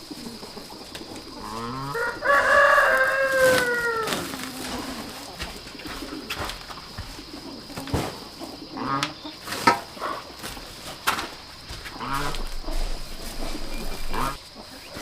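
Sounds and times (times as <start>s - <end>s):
low cooing bird calls: 0.0s - 15.0s.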